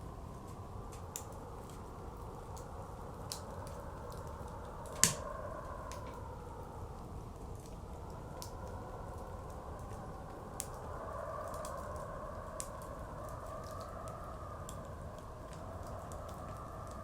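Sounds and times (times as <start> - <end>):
howling blizzard wind: 0.0 - 17.0
wood fire crackling and popping: 0.2 - 17.0.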